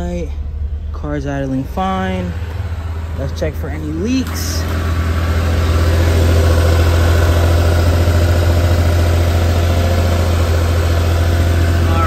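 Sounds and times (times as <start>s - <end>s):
small van engine idling: 0.0s - 12.0s.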